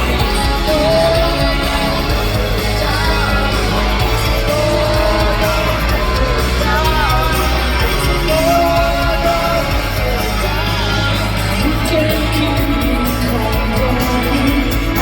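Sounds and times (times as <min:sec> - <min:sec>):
crowd yelling: 0:00.0 - 0:15.0
live rock band playing: 0:00.0 - 0:15.0
person singing: 0:00.0 - 0:15.0.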